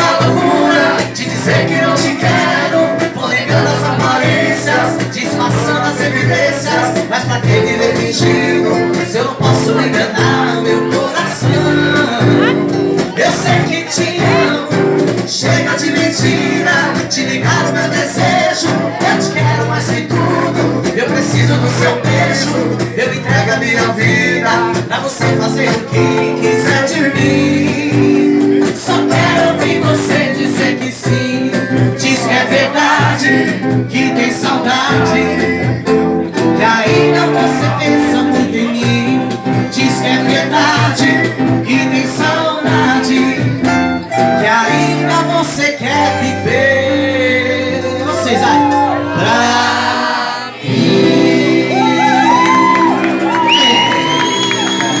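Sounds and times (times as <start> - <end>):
guitar: 0.0 - 55.0
man singing: 0.0 - 55.0.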